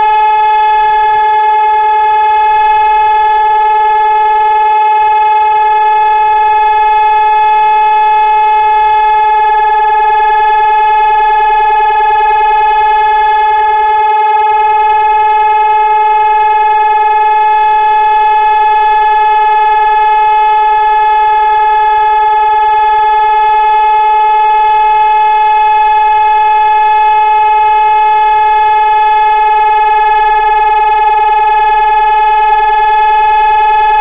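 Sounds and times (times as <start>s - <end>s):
siren steady tone: 0.0s - 34.0s.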